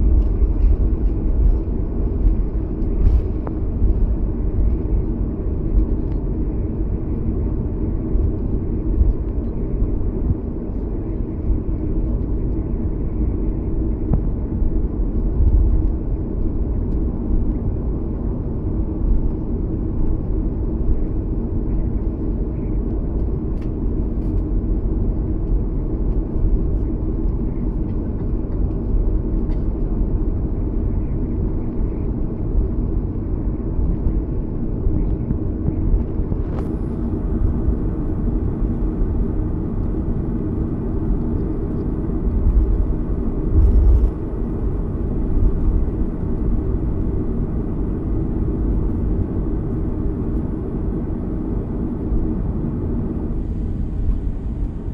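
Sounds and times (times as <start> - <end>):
aircraft cabin rumble: 0.0 - 54.9.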